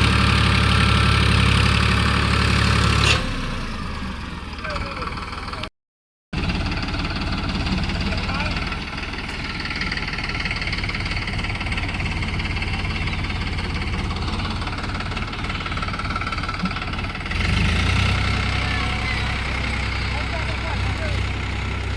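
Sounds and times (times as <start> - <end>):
tractor diesel engine running: 0.0 - 5.7, 6.4 - 21.9.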